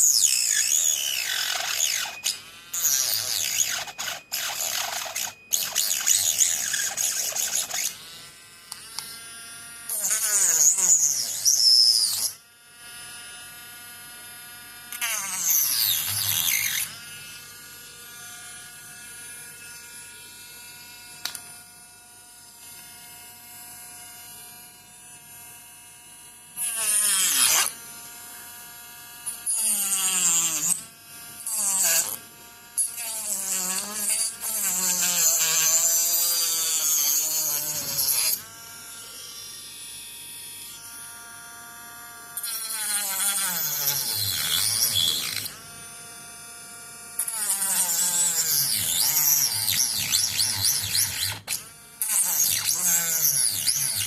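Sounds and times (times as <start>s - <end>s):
small electric grinder whining: 0.0s - 54.0s.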